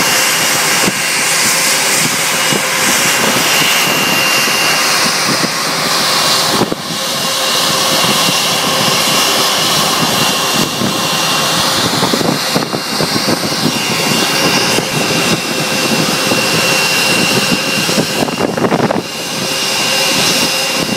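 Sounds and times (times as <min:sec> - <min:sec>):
jet engines idling whine: 0:00.0 - 0:20.9.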